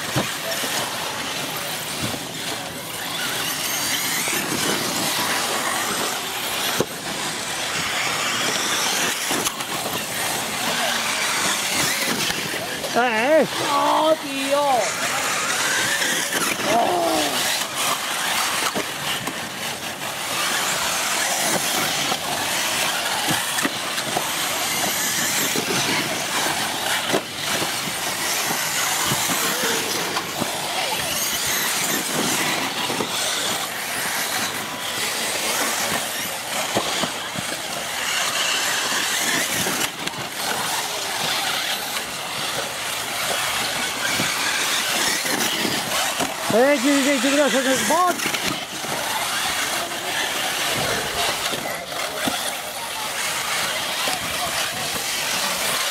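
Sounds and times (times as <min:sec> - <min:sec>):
model car motors racing: 0:00.0 - 0:55.9.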